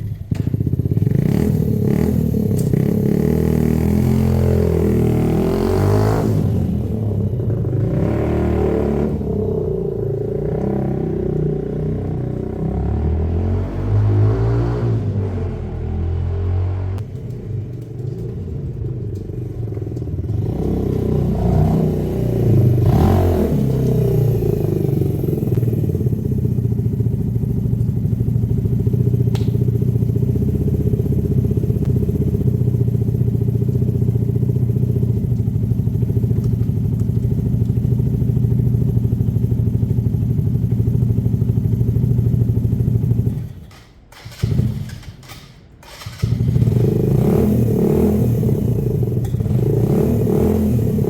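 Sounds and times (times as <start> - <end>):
motorcycle engine running: 0.0 - 43.7, 46.0 - 51.0.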